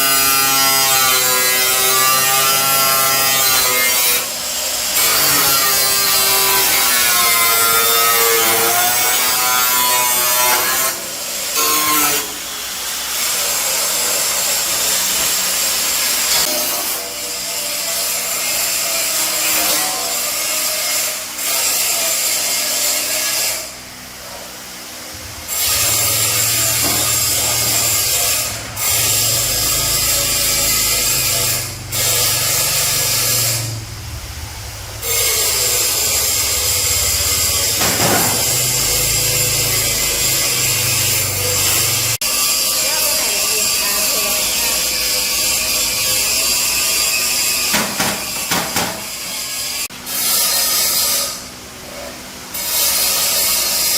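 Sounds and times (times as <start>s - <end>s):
power tool working metal: 0.0s - 53.9s.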